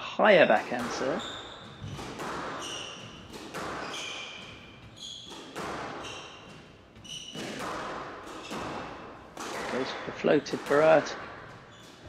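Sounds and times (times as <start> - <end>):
squash ball knocks echoing: 0.3 - 12.0
shoes squeaking on wooden floor: 0.6 - 12.0.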